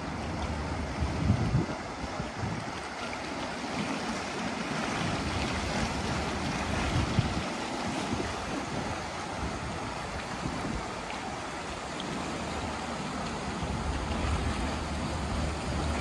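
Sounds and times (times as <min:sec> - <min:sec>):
wind buffeting microphone: 0:00.1 - 0:03.0, 0:04.7 - 0:16.0
waves washing against rocks: 0:01.0 - 0:16.0.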